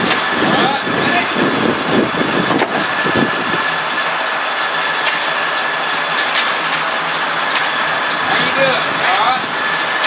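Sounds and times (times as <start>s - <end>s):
high mechanical whine: 0.0s - 10.0s
sawmill machinery running: 0.0s - 10.0s.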